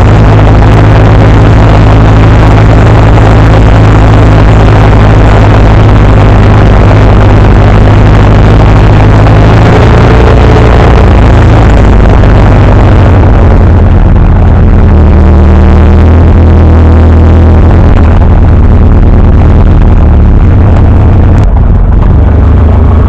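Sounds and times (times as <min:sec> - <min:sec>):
diesel tractor engine running: 0:00.0 - 0:23.0.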